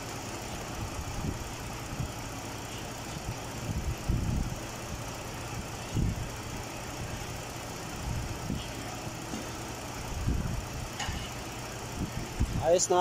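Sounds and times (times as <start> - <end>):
car engine idling quietly: 0.0 - 13.0.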